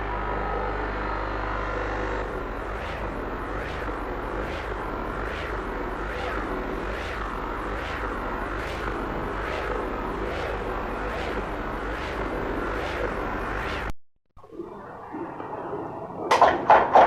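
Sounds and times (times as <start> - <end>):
rhythmic fan whoosh: 0.0 - 13.9.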